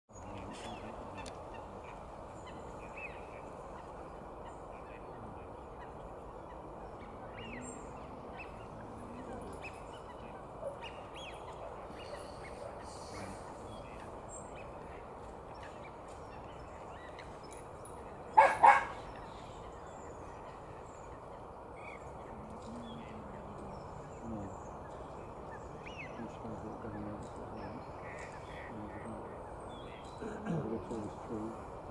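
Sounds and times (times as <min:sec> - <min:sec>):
low background rush: 0:00.1 - 0:31.9
waterfowl calling: 0:00.3 - 0:31.7.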